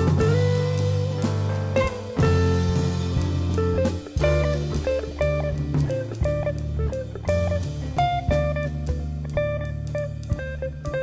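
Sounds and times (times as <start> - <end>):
music with guitar and drums: 0.0 - 11.0.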